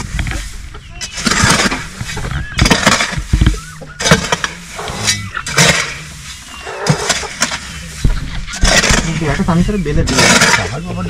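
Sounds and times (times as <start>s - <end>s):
hoe scraping floor litter: 0.0s - 10.8s.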